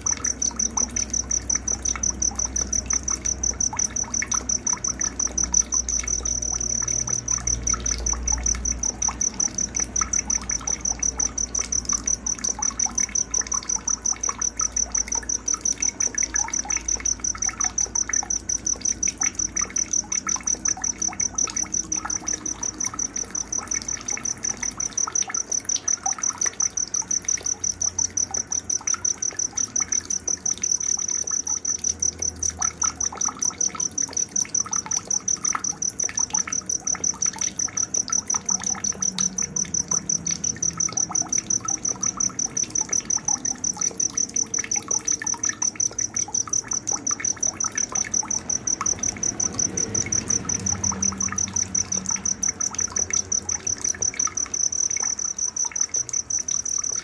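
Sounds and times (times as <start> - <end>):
cricket chirping: 0.0 - 57.0
faint trickle of water: 0.0 - 57.0.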